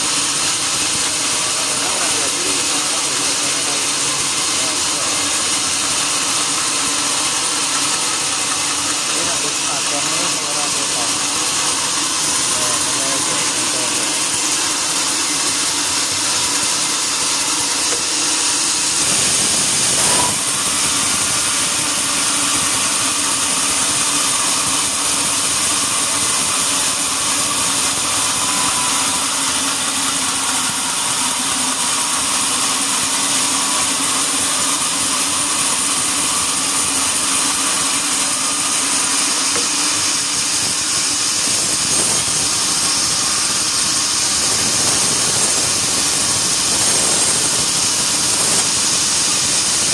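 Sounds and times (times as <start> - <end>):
sawmill saw running: 0.0 - 49.9.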